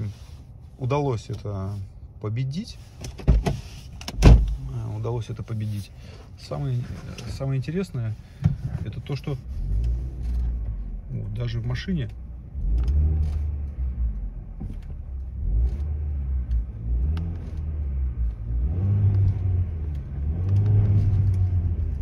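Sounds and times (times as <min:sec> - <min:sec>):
car engine while driving: 0:00.0 - 0:22.0.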